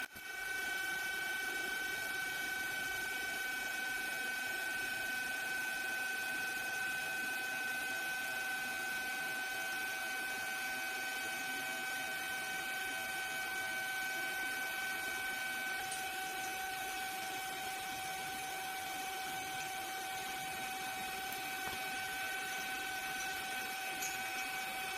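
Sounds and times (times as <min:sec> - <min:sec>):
small motor whining: 0:00.0 - 0:24.9.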